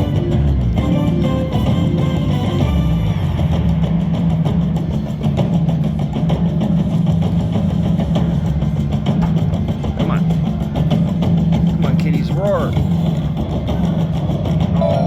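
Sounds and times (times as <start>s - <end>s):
low droning casino hum: 0.0s - 15.0s.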